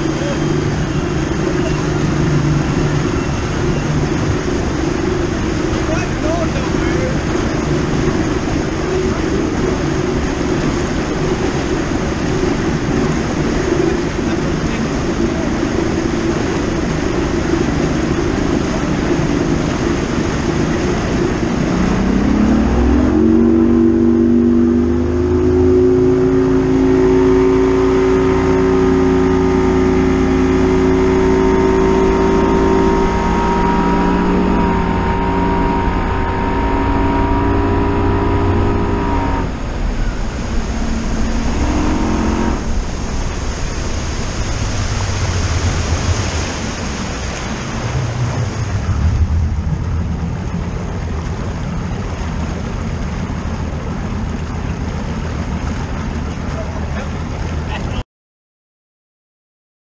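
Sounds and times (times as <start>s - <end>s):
wind on microphone: 0.0s - 57.8s
outboard motor running: 0.0s - 58.0s
water rushing: 0.0s - 58.0s.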